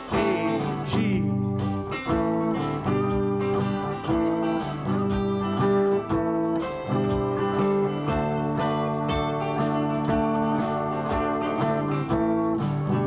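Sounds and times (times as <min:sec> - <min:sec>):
backing band: 0:00.0 - 0:13.0
electric guitar playing blues: 0:00.0 - 0:13.0.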